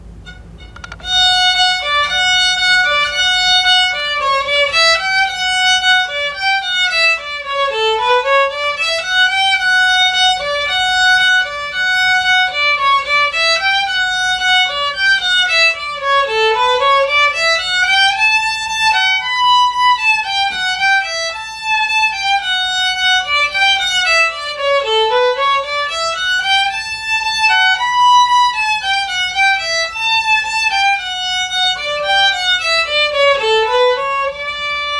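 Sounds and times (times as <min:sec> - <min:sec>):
solo fiddle dance tune: 0:00.0 - 0:34.9.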